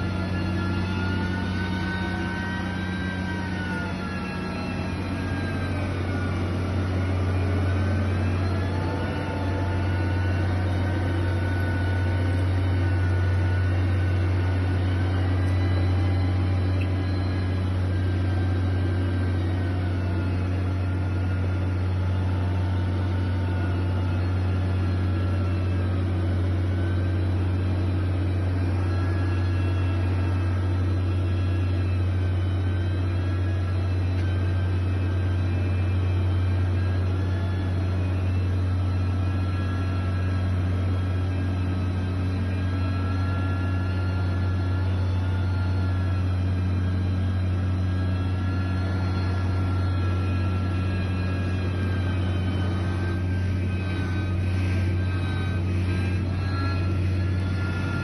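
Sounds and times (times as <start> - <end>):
heavy machinery engine droning: 0.0 - 58.0.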